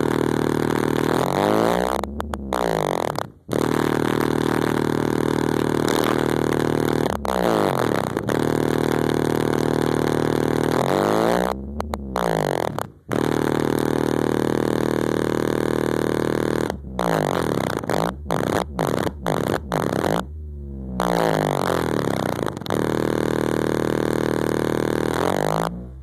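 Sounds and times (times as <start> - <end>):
heavy bass music from subwoofers: 0.0 - 26.0.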